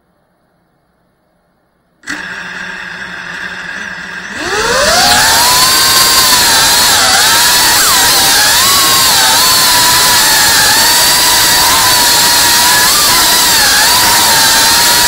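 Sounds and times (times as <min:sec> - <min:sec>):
drone motors buzzing: 0:02.0 - 0:15.0.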